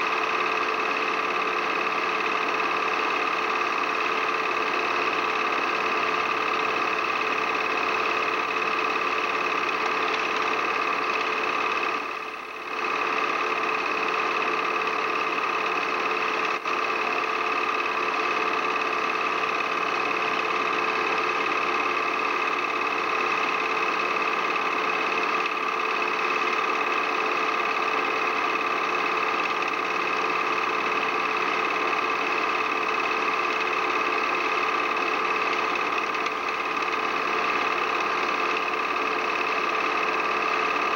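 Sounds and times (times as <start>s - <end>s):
film projector whirring and clatter: 0.0s - 40.9s.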